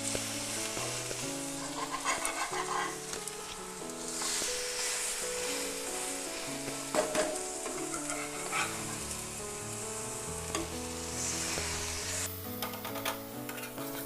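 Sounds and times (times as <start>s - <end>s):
background music: 0.0s - 14.0s
bread sizzling in a pan: 0.0s - 14.0s.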